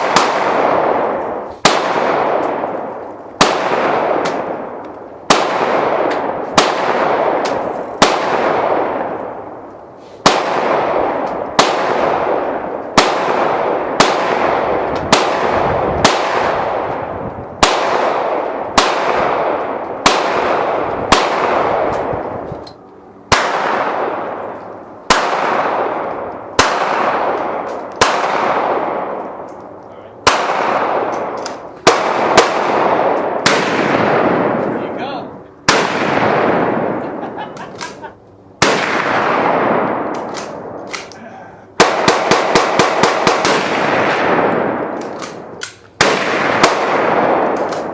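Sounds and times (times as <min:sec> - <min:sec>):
gunshots with echo: 0:00.0 - 0:09.6, 0:10.2 - 0:22.5, 0:23.3 - 0:29.5, 0:30.2 - 0:37.5, 0:38.6 - 0:41.1, 0:41.7 - 0:47.9.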